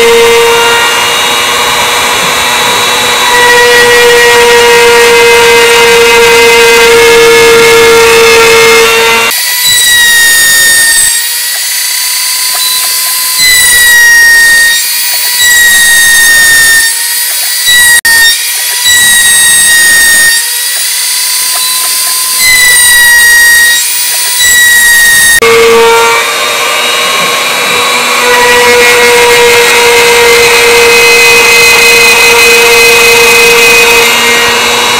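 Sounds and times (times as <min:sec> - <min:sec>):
router bit cutting wood: 0:00.0 - 0:34.9
router spindle high whine: 0:00.0 - 0:34.9.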